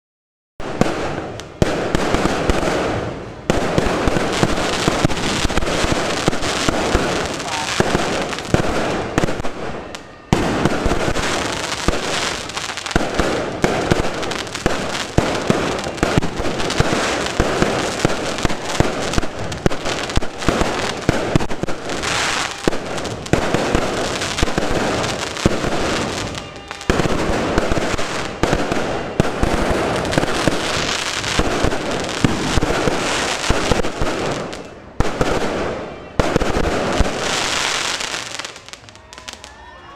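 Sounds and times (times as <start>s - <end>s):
fireworks bangs and crackles: 0.6s - 39.9s.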